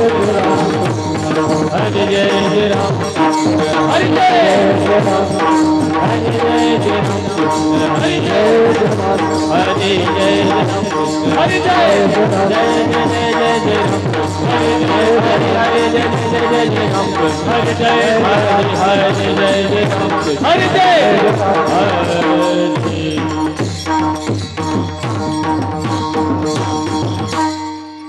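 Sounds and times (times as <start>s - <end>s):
hand drum beat: 0.0s - 27.5s.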